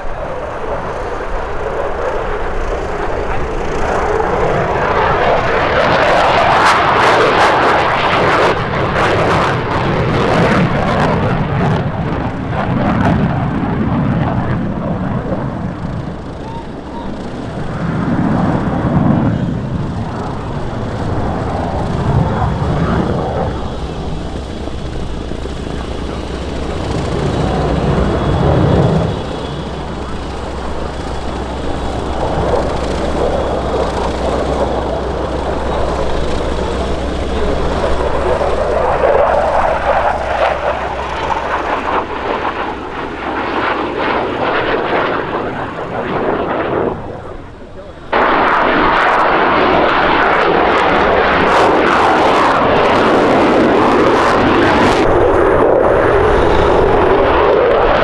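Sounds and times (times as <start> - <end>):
jet engine roaring: 0.0 - 58.0.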